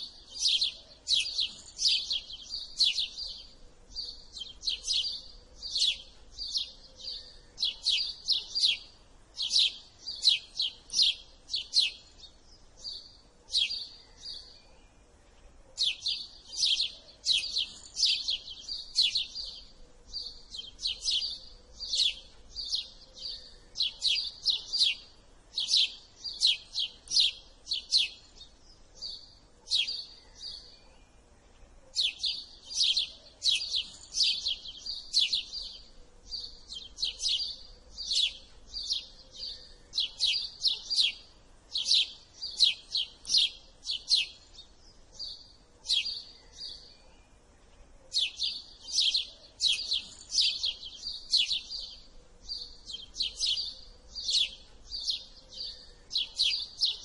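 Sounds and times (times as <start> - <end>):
sparrow chirping: 0.0 - 57.0.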